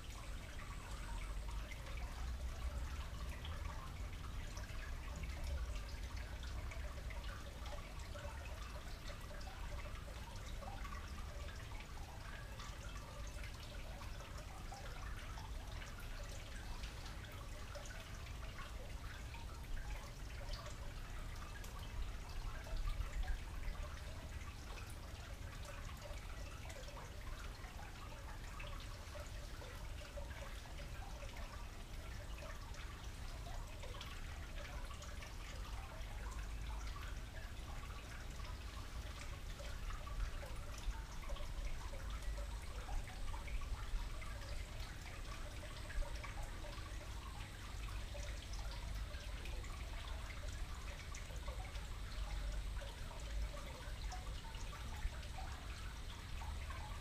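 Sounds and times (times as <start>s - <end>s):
fountain trickling and dripping: 0.0s - 57.0s
low steady rumble: 0.0s - 57.0s.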